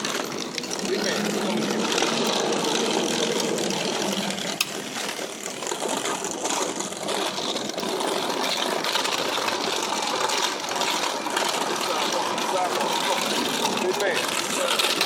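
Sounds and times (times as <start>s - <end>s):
skateboard wheels rolling on pavement: 0.0s - 15.0s.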